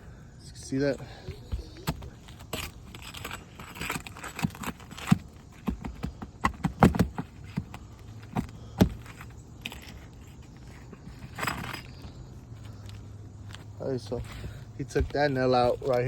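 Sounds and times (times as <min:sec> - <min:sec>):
pry bar clicking and scraping: 0:00.7 - 0:16.0.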